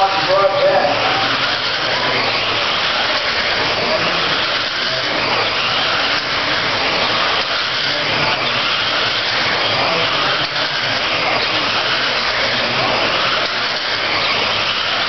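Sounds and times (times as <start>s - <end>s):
rc cars whirring: 0.0s - 15.0s.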